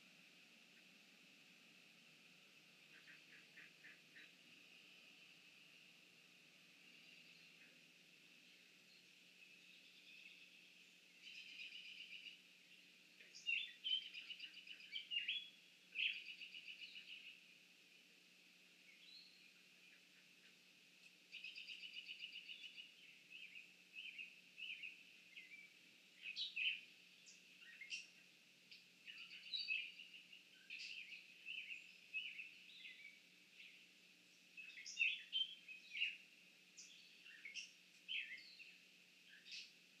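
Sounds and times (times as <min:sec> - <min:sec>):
faint low hum: 0:00.0 - 0:40.0
songbirds singing and calling: 0:02.6 - 0:17.6, 0:18.7 - 0:40.0.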